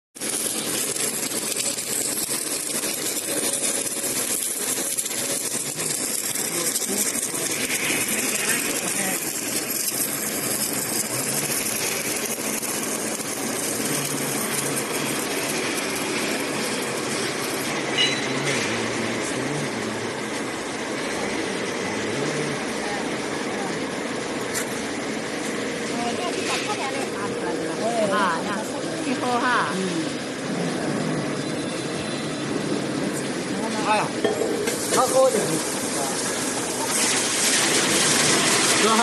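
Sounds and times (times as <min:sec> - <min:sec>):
welding crackling hiss: 0:00.2 - 0:39.0.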